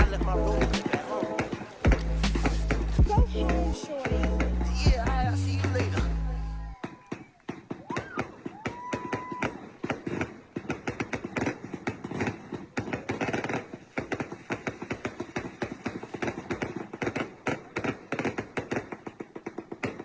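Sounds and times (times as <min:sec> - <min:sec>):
firecrackers popping: 0:00.0 - 0:06.2, 0:06.8 - 0:20.0.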